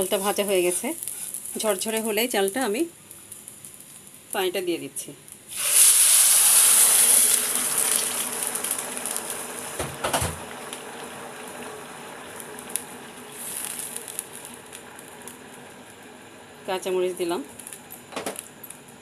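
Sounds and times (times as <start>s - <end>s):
water hissing in hot pan: 0.0s - 4.6s, 5.4s - 19.0s
sizzling and bubbling: 0.0s - 19.0s.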